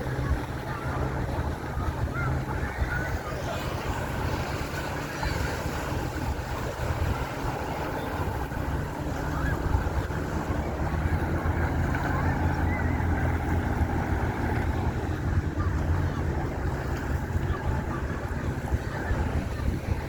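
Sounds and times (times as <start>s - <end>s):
motorboat engine rumbling: 0.0s - 20.0s.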